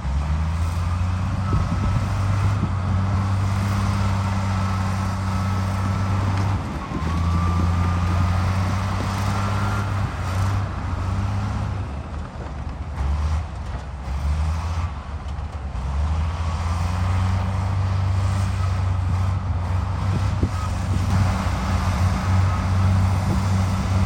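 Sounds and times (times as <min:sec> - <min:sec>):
heavy diesel engines droning: 0:00.0 - 0:24.0.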